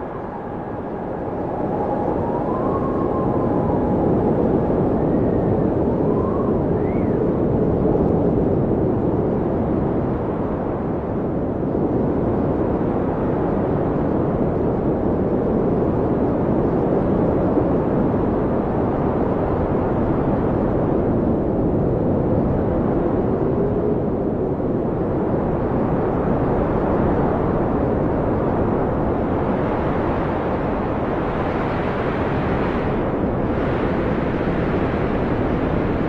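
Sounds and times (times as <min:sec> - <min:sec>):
blizzard wind blowing hard: 0:00.0 - 0:36.0
faint rising wind howls: 0:00.0 - 0:36.0.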